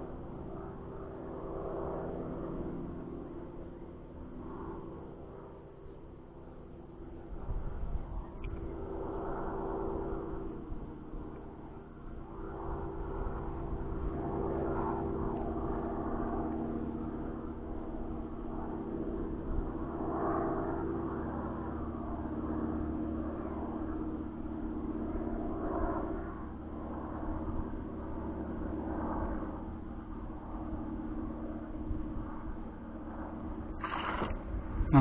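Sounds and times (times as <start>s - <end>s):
model plane propeller buzzing: 0.0s - 35.0s.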